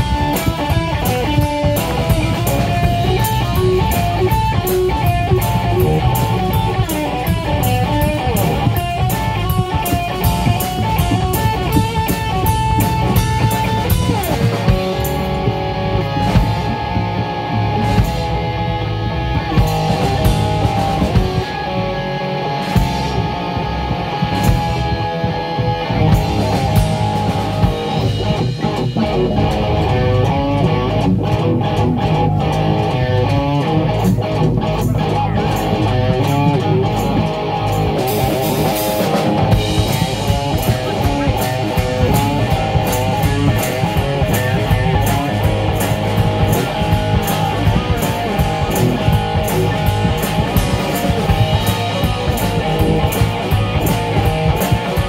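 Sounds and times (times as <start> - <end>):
drum kit with cymbals: 0.0 - 55.0
electric guitar: 0.0 - 55.0.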